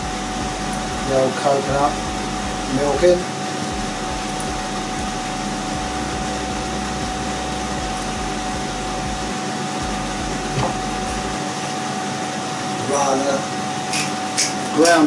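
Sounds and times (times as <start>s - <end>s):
steady whirring hum: 0.0s - 15.0s.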